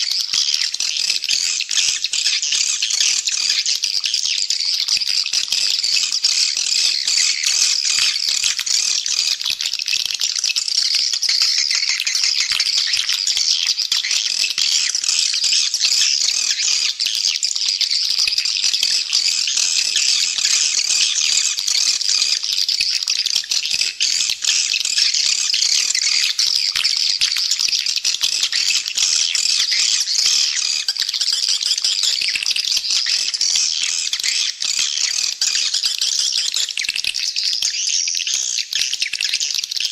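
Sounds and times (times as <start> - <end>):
swiftlets chattering and twittering: 0.0 - 39.9.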